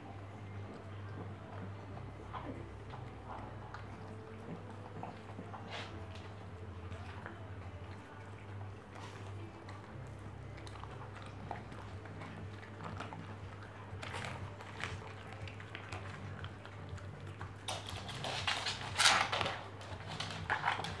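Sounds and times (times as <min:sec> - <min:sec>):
dog chewing and gnawing: 0:00.0 - 0:21.0.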